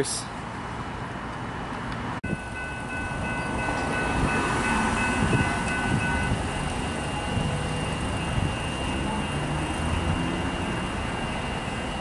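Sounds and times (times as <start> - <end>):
road traffic rumble: 0.0 - 12.0
level crossing warning bells: 2.2 - 12.0
train approaching: 2.2 - 12.0.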